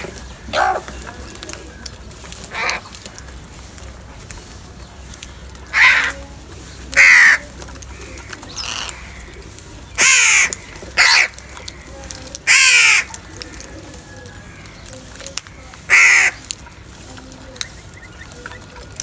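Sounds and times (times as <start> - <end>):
crows cawing: 0.0 - 1.4, 2.4 - 3.6, 5.3 - 6.3, 6.9 - 19.0.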